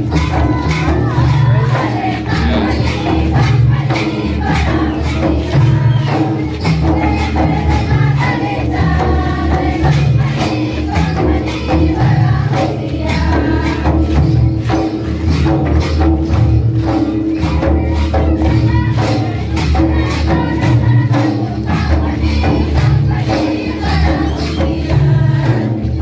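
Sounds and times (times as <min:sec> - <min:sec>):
group singing together: 0:00.0 - 0:14.9, 0:17.1 - 0:26.0
percussion with jingling strokes: 0:00.0 - 0:26.0.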